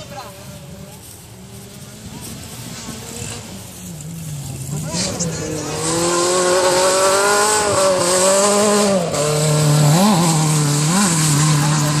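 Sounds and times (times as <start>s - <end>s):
car engine running hard: 0.0s - 12.0s
tyres on gravel: 0.0s - 12.0s.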